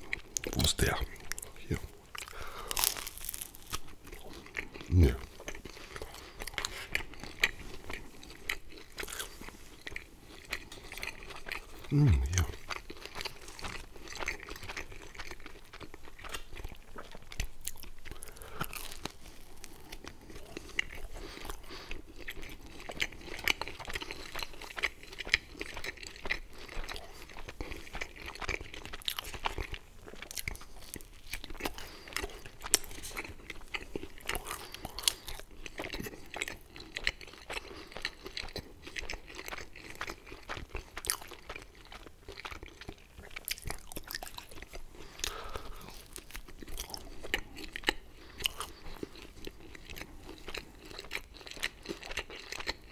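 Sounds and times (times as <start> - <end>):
close chewing and biting: 0.0 - 52.9.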